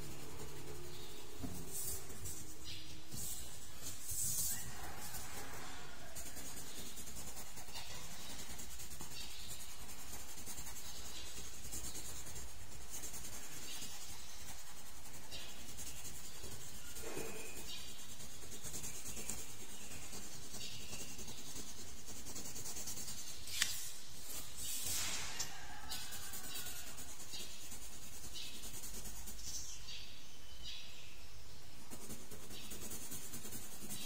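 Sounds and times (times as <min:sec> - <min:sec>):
pencil scratching on paper: 0:00.0 - 0:29.8, 0:31.8 - 0:34.0.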